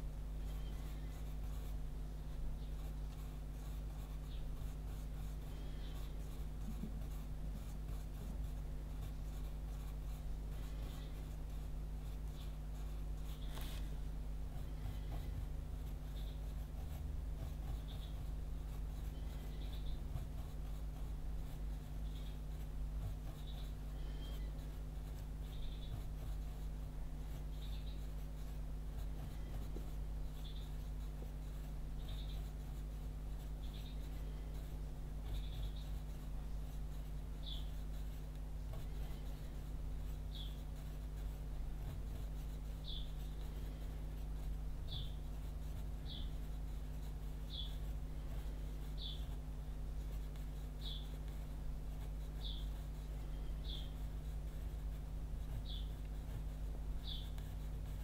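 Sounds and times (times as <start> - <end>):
steady low hum: 0.0 - 58.0
pencil scratching on paper: 0.4 - 58.0.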